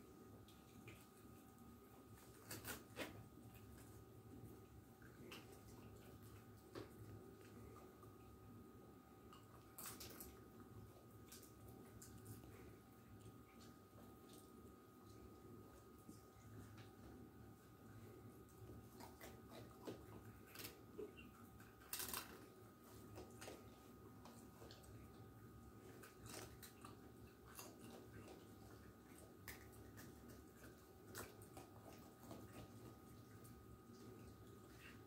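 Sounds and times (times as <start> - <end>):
faint steady hum: 0.0 - 35.0
raccoon chewing food: 0.0 - 35.0.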